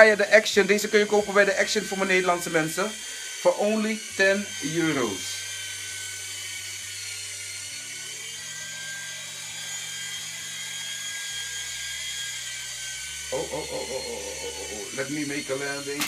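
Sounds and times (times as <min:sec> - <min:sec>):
toy helicopter rotor whine: 0:00.0 - 0:16.0.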